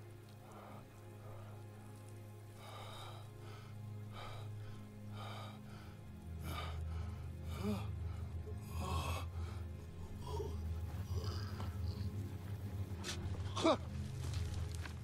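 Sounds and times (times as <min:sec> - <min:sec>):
low droning film score: 0:00.0 - 0:15.0.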